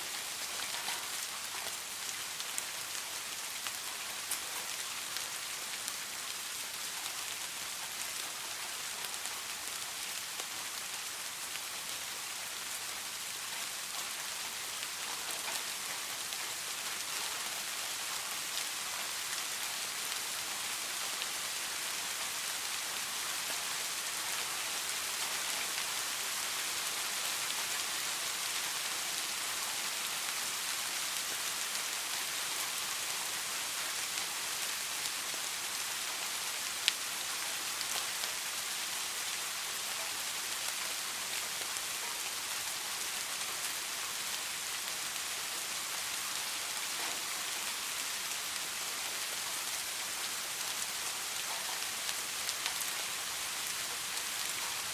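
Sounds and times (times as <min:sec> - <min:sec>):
soft rain hissing: 0:00.0 - 0:54.9.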